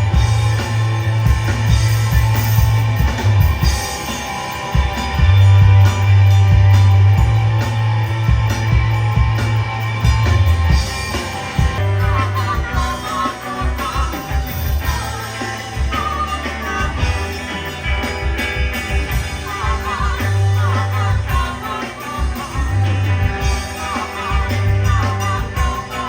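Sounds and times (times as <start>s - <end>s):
bass guitar: 0.0s - 26.0s
drums: 0.0s - 26.0s
electric guitar melody: 0.0s - 26.0s.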